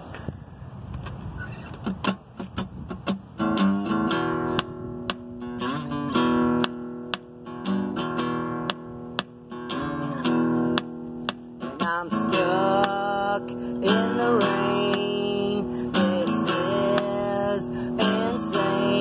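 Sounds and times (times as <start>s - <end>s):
acoustic guitar strummed: 1.7s - 19.0s.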